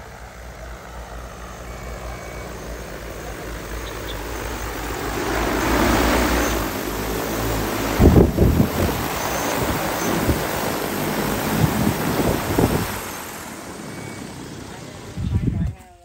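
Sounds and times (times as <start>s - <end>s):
drone rotor hum: 0.0s - 15.6s.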